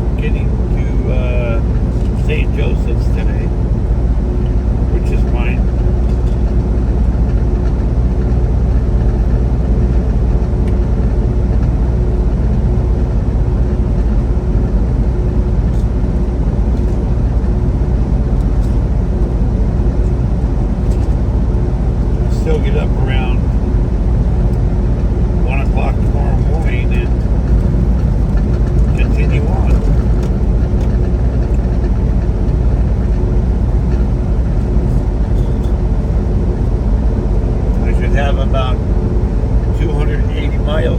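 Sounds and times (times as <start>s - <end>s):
faint constant hum: 0.0s - 40.9s
road noise: 0.0s - 40.9s
truck engine drone: 0.0s - 40.9s.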